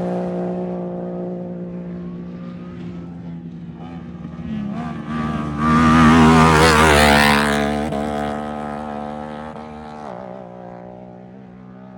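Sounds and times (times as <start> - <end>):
engine passing at high revs: 0.0 - 11.9.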